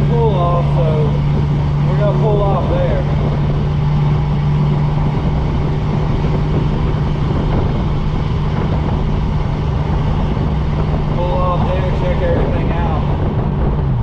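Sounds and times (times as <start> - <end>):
engine with road and wind noise: 0.0 - 14.0.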